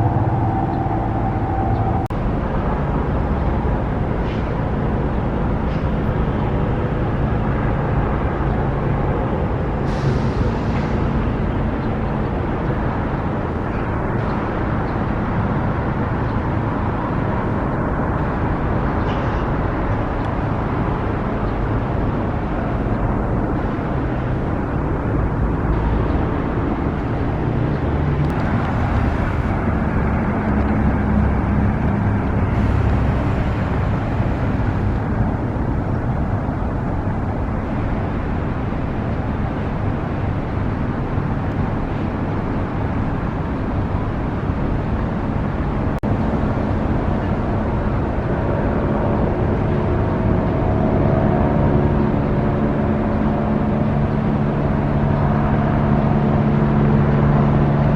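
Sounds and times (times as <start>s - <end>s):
road vehicles passing: 0.0s - 57.9s.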